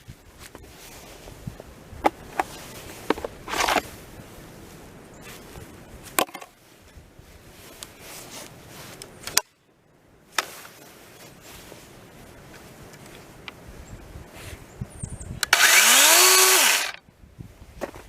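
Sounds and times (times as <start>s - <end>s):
low steady hiss: 0.0s - 18.0s.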